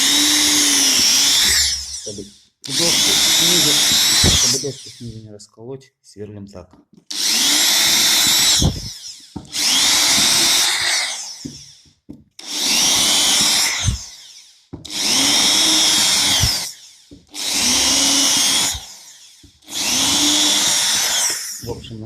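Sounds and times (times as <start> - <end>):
electric drill boring wood: 0.0 - 5.2, 7.1 - 21.8.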